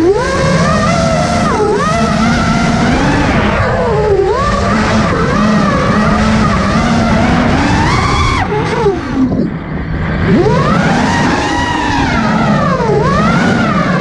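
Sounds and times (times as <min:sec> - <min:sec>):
drone motors whining: 0:00.0 - 0:14.0
wind rushing: 0:00.0 - 0:14.0.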